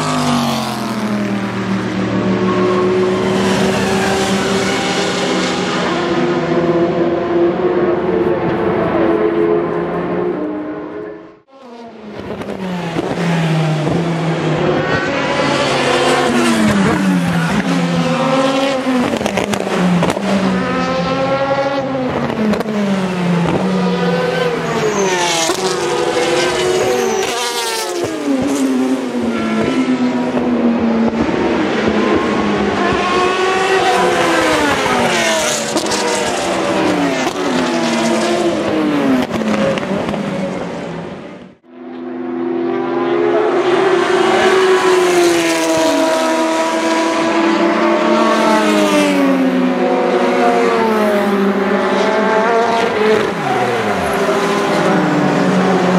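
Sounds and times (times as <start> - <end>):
race cars passing: 0.0 - 55.9.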